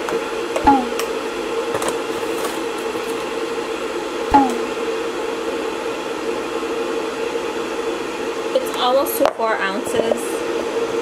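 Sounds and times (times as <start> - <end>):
steady appliance hum: 0.0 - 11.0.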